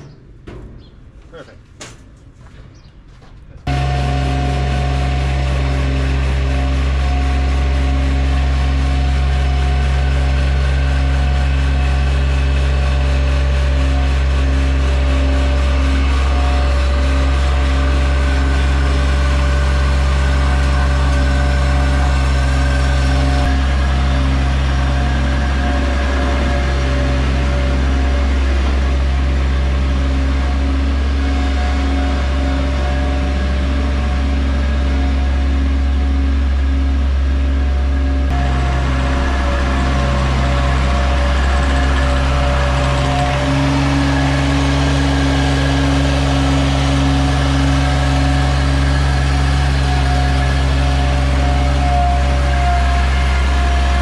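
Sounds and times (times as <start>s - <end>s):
skid steer engine running: 3.1s - 54.0s.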